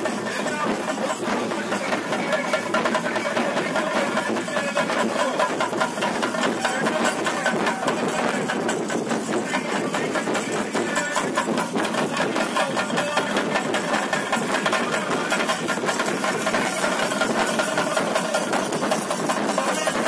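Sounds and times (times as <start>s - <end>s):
drums beaten in fast roll: 0.0s - 20.0s.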